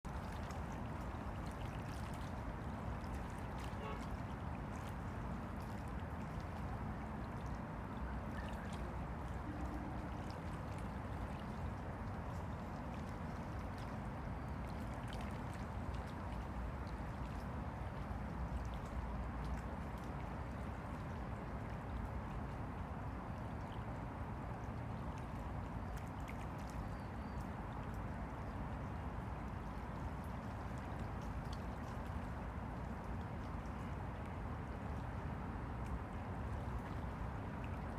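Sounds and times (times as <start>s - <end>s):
faint splashes: 0.0s - 37.9s
low water wash: 0.0s - 37.9s
waves lapping against bank: 0.0s - 37.9s.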